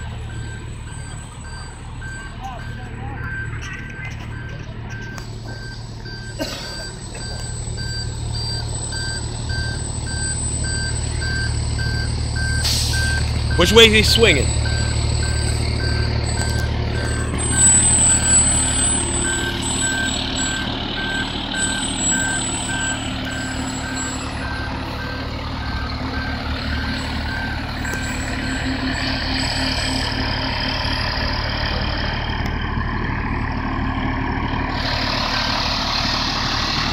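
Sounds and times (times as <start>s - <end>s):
reversing alarm beeping: 0.0s - 31.5s
diesel engine running low: 0.0s - 36.9s.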